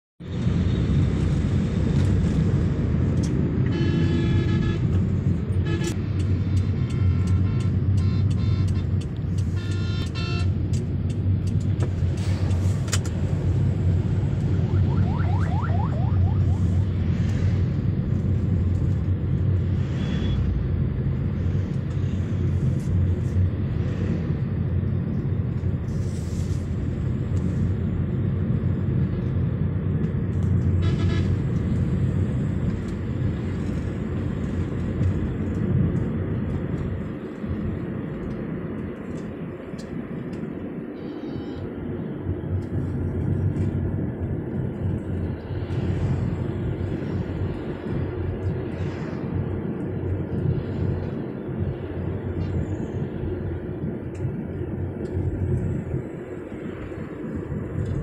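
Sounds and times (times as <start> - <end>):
car road and engine rumble: 0.2 - 58.0.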